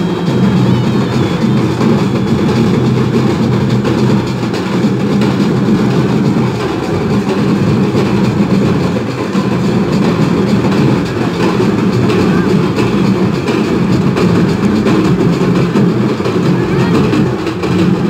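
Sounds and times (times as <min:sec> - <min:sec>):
dense crowd din: 0:00.0 - 0:18.0.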